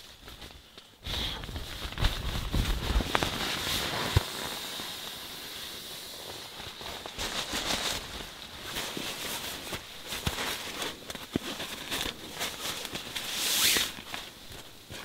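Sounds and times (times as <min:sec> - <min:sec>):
nylon sleeping pad rustling: 0:00.0 - 0:15.0.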